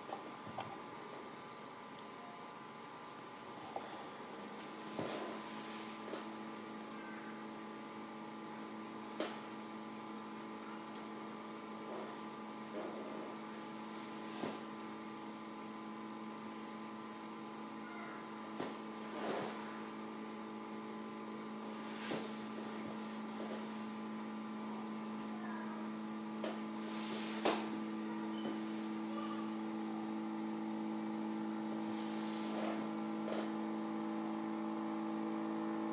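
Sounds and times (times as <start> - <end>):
magnetic stirrer humming: 0.0 - 35.9.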